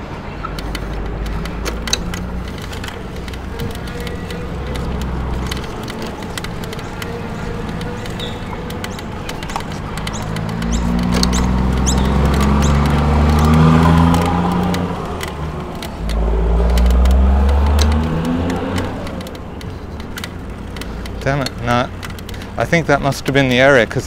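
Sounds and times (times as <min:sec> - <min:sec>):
light rattle of clicks: 0:00.4 - 0:24.0.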